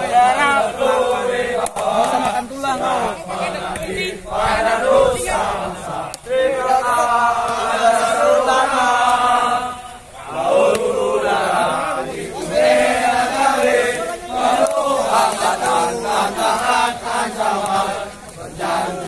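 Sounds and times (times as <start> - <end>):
group of men chanting in unison: 0.0 - 19.0.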